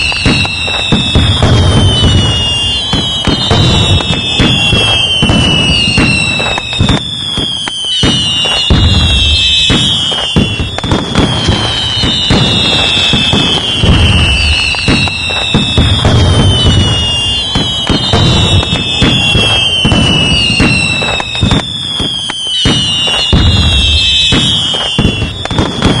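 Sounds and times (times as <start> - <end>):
firework falling whistle: 0.0 - 26.0
fireworks crackling pops: 0.0 - 26.0
fireworks low booms: 0.0 - 26.0.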